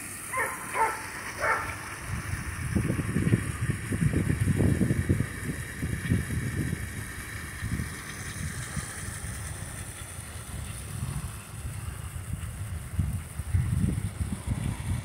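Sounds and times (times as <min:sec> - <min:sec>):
wind rumbling on microphone: 0:00.4 - 0:15.0.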